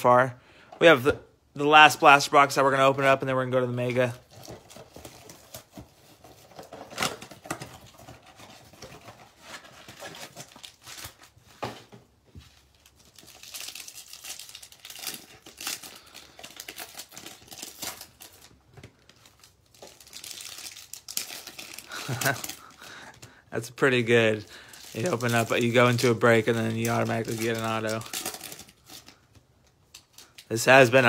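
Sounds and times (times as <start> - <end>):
foil wrapper crinkling and tearing: 3.8 - 11.4, 12.6 - 31.0.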